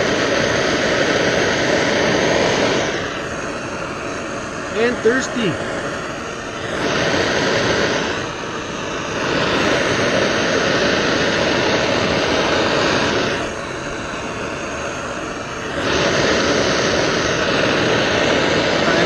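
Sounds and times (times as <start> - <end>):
torch flame roaring: 0.0 - 19.0.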